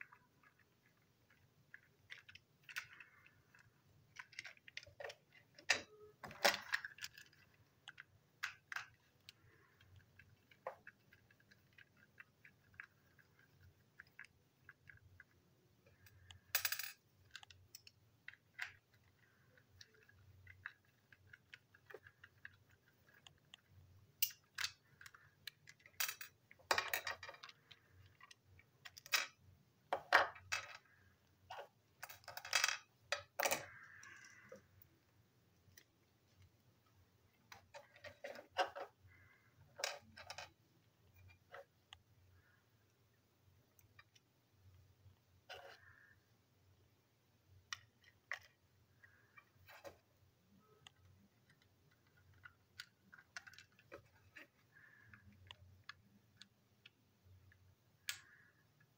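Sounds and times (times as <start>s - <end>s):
plastic toy parts clicking: 0.0s - 34.9s, 37.3s - 42.6s, 47.5s - 58.9s.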